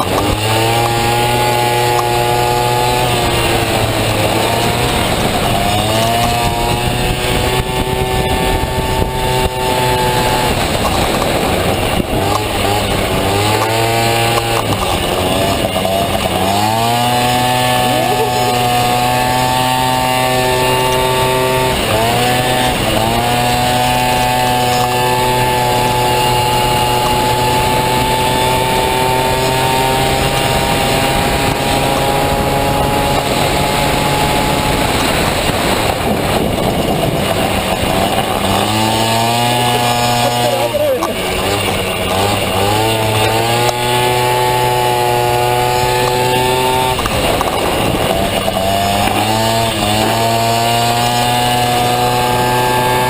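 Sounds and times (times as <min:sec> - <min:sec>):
two-stroke scooter engine revving: 0:00.0 - 0:53.0.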